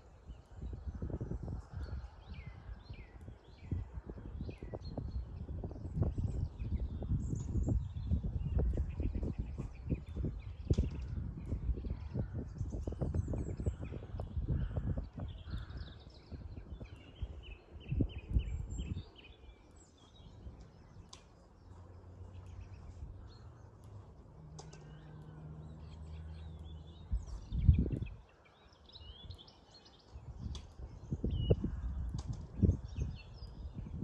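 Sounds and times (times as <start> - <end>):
small birds chirping: 0.0 - 34.0
wind rumbling on microphone: 0.0 - 34.0.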